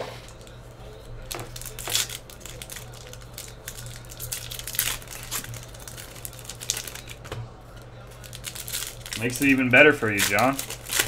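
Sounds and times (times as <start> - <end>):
foil wrapper crinkling and tearing: 0.3 - 11.0.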